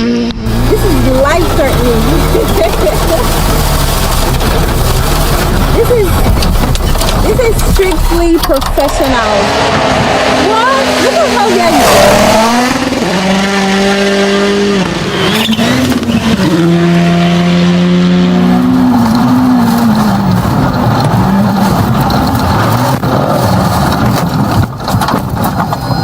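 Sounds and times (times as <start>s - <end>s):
rally car engine revving: 0.0s - 26.0s
rushing tyres and air: 0.0s - 26.0s.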